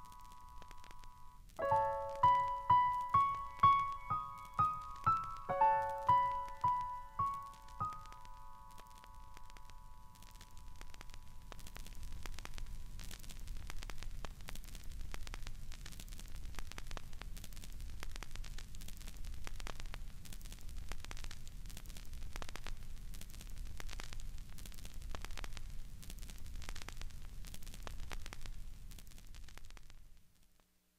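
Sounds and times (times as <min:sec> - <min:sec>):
static clicks and pops: 0:00.0 - 0:30.7
low hum and hiss: 0:00.0 - 0:30.9.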